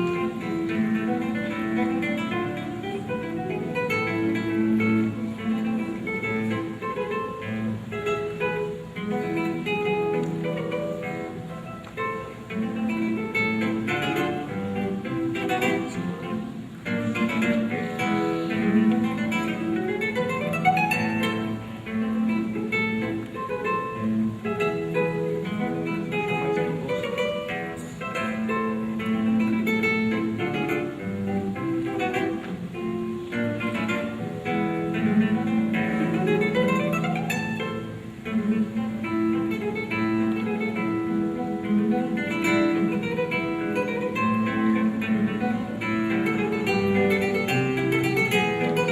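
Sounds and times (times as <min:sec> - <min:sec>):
solo acoustic guitar: 0:00.0 - 0:48.9.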